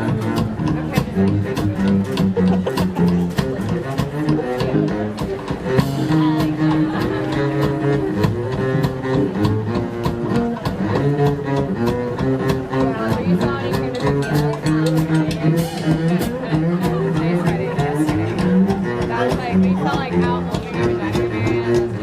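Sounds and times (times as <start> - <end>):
jazz band playing: 0.0 - 22.0.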